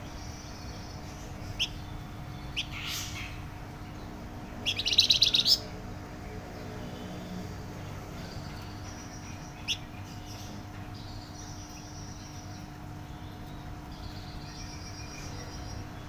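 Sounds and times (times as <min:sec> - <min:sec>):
songbird chirping: 0:00.0 - 0:16.0
steady low hum: 0:00.0 - 0:16.0.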